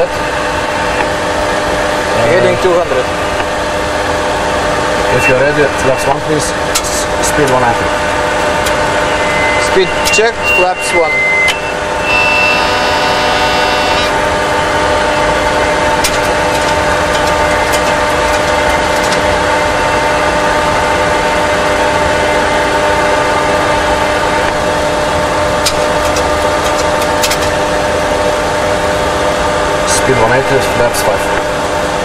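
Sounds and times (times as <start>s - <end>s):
engine and airflow rumble: 0.0s - 32.0s
hum of steady tones: 0.0s - 32.0s.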